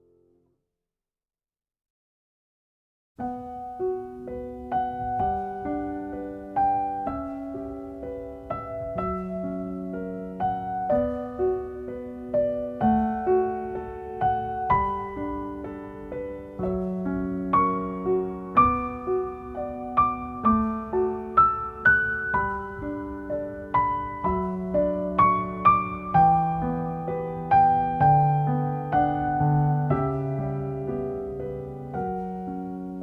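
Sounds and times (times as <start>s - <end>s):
gentle piano melody: 3.2s - 33.0s.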